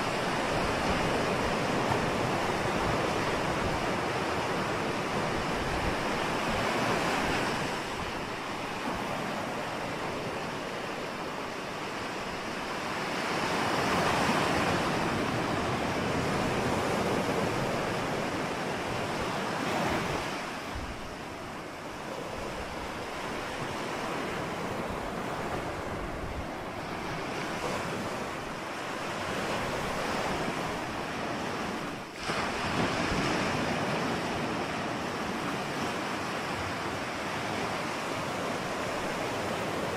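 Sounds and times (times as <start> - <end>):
ocean surf waves breaking: 0.0 - 39.9.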